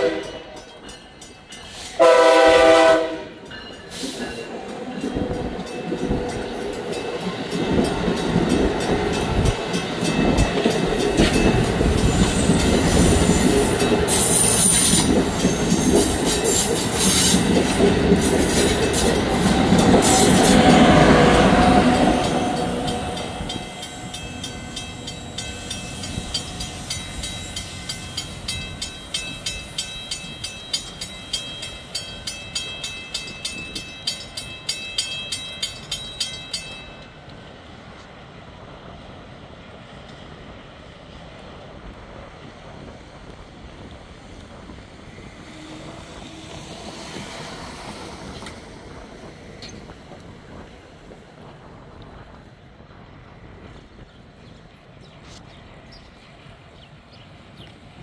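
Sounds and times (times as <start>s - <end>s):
train rumble with rail clicks: 0.0s - 58.0s
train wheels rushing on rail: 0.0s - 58.0s.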